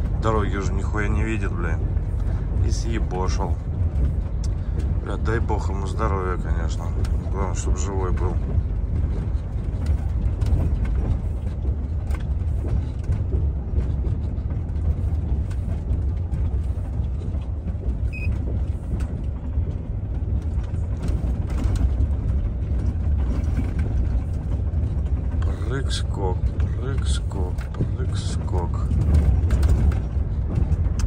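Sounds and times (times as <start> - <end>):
light knocks and rattles: 0.0 - 31.0
truck engine and road rumble: 0.0 - 31.0.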